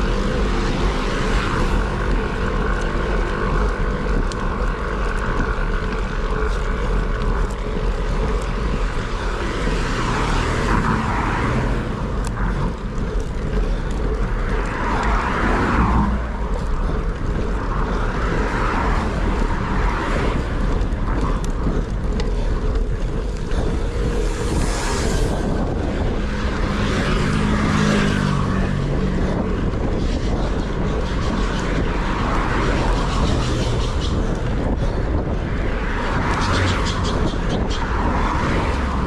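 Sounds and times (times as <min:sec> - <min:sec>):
low road rumble: 0:00.0 - 0:39.0
wind rushing over microphone: 0:00.0 - 0:39.0.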